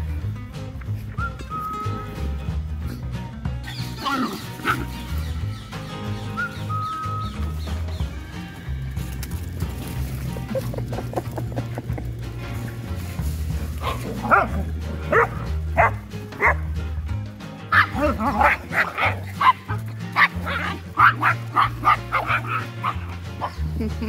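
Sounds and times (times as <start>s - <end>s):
background music: 0.0s - 24.0s
dogs barking and yipping: 3.6s - 24.0s.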